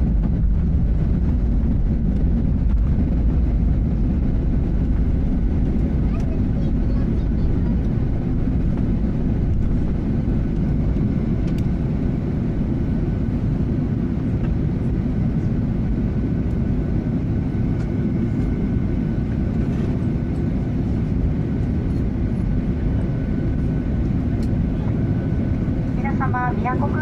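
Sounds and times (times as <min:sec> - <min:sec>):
faint high engine whine: 0:00.0 - 0:27.0
low rumble of plane cabin: 0:00.0 - 0:27.0.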